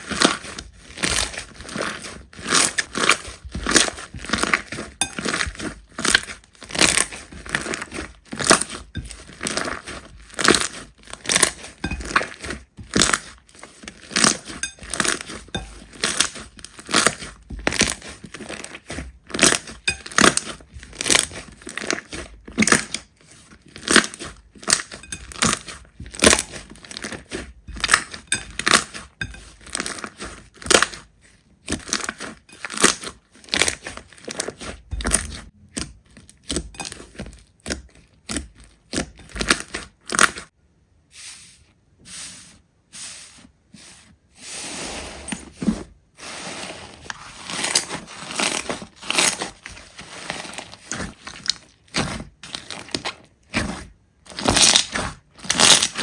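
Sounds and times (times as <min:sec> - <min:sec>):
slime squishing by hand: 0:00.0 - 0:56.0.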